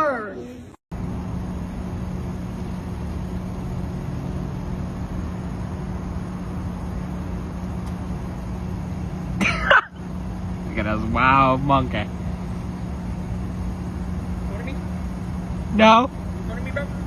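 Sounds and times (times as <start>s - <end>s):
machine humming with rushing noise: 0.9s - 17.0s.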